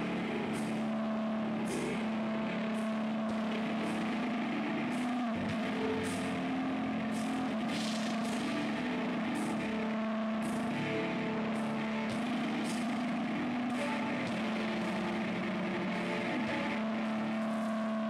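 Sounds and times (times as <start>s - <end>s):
distorted electric guitar drone: 0.0s - 18.0s.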